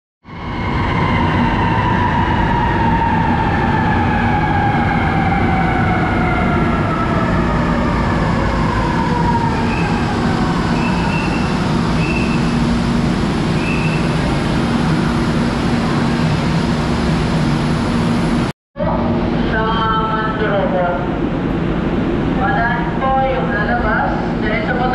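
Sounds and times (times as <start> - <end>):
train rumbling: 0.3 - 24.9.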